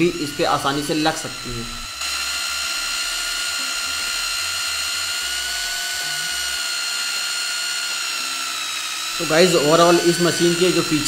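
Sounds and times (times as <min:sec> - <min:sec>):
hammer drill boring into wood: 0:00.0 - 0:11.0.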